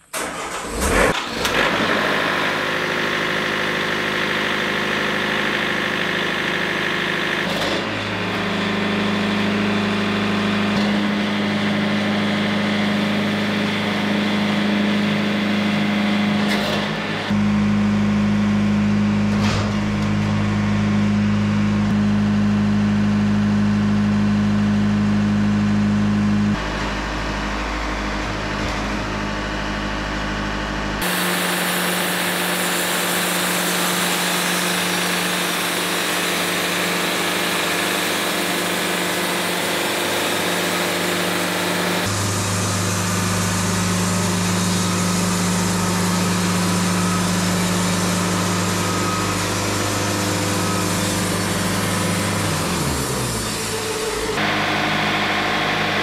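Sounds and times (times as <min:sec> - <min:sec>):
sawmill engine hum: 0:00.0 - 0:56.0.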